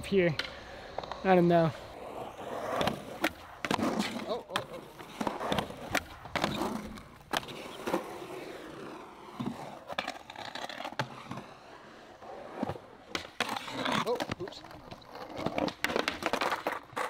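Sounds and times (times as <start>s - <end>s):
skateboard clacking: 0.0s - 17.0s
skateboard wheels rolling on concrete: 0.0s - 17.0s.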